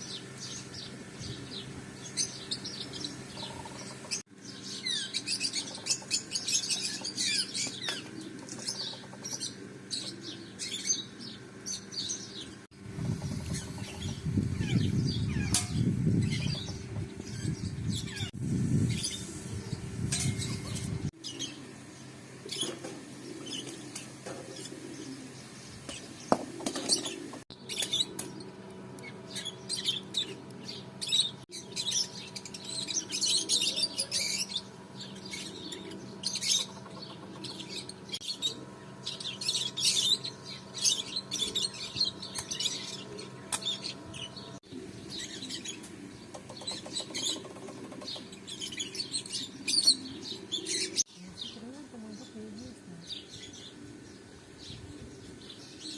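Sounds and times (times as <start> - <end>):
small birds chirping: 0.0 - 55.9
steady low hum: 0.0 - 55.9.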